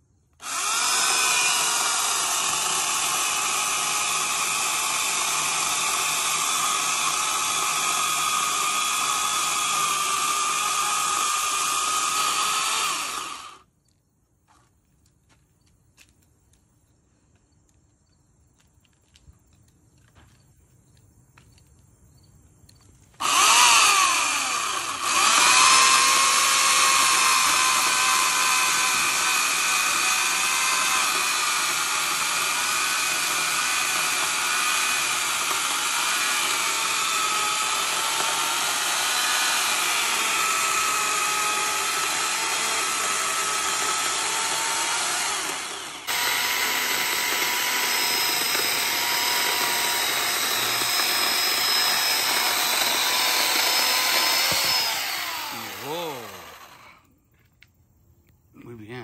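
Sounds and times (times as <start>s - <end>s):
electric chainsaw whining: 0.4s - 13.7s, 23.1s - 57.1s.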